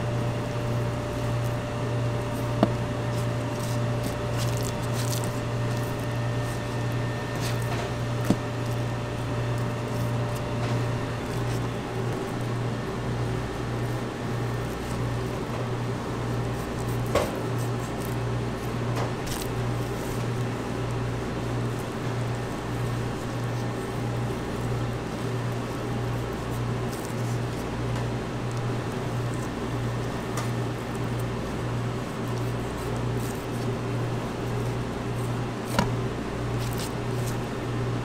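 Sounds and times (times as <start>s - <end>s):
kitchen machinery hum: 0.0s - 38.0s.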